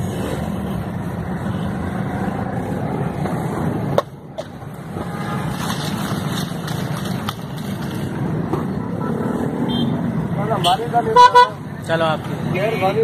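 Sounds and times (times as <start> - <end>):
car and motorbike engines: 0.0 - 13.0
road traffic hum: 0.0 - 13.0.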